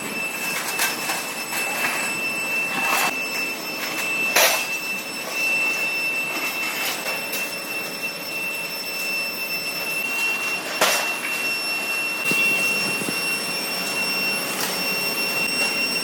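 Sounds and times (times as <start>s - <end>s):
machinery high whine: 0.0s - 16.0s.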